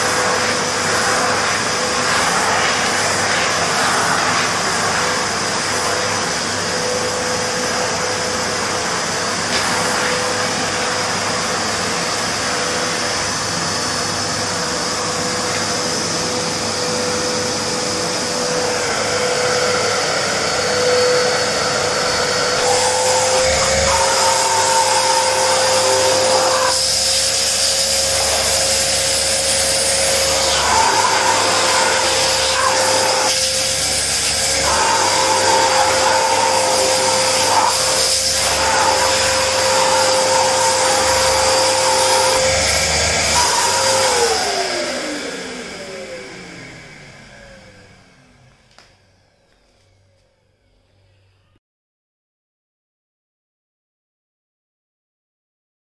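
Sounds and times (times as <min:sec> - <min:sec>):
vacuum cleaner running: 0:00.0 - 0:50.2.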